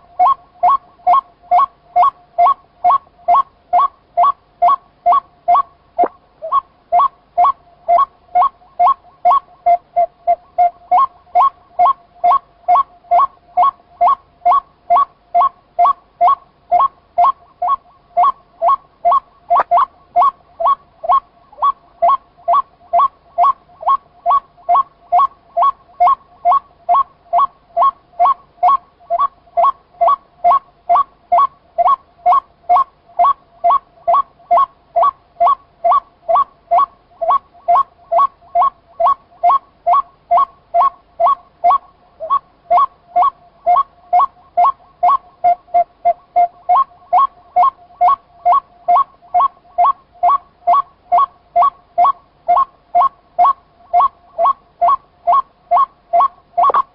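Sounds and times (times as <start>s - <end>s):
waterhen calling: 0.0s - 56.9s.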